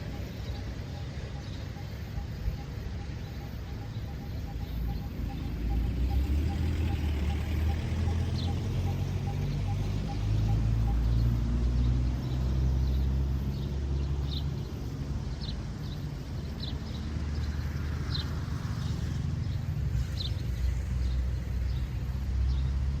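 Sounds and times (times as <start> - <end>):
low engine-like rumble: 0.0 - 23.0.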